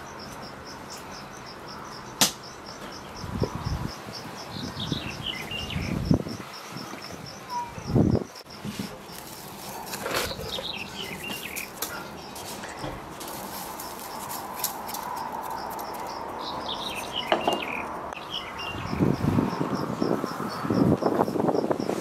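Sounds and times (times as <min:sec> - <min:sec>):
insect chirping: 0:00.0 - 0:22.0
songbird singing: 0:00.0 - 0:22.0.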